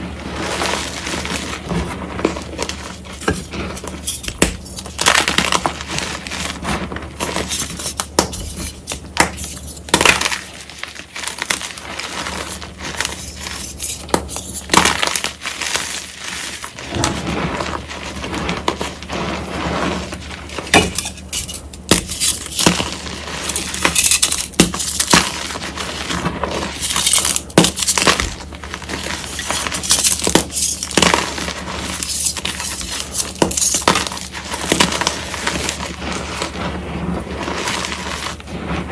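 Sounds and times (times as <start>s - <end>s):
chalk crunching by hand: 0.0s - 38.9s.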